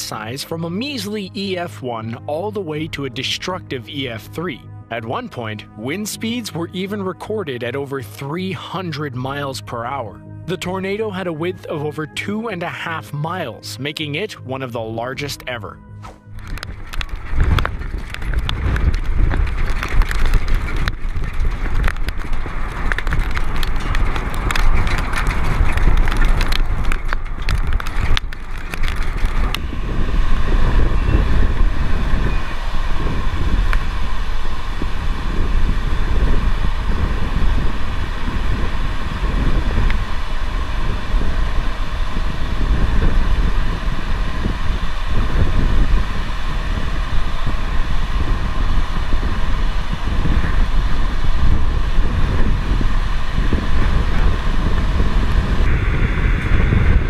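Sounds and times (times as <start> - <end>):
rough wind noise on microphone: 0.0 - 12.5, 15.4 - 57.0
steady rumble: 0.0 - 57.0.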